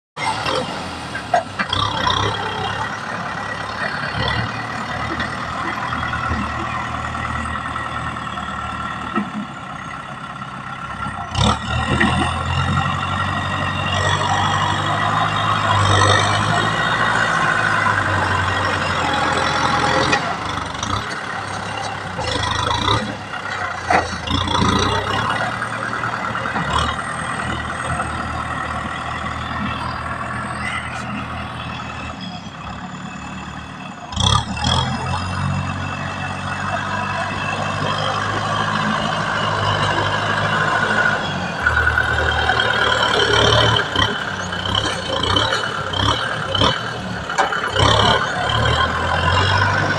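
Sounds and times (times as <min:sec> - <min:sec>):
tractor diesel engine running: 0:00.2 - 0:49.9.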